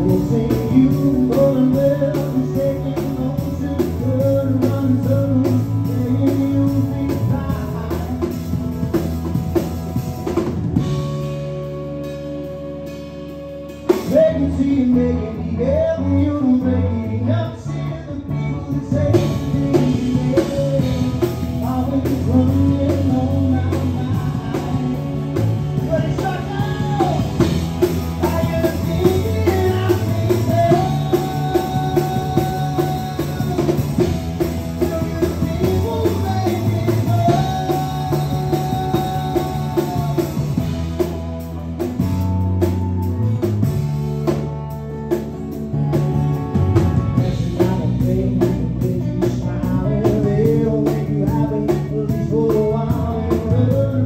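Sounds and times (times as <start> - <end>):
lead vocal singing: 0.0 - 10.1, 13.9 - 41.6, 47.0 - 54.0
live rock band playing: 0.0 - 54.0.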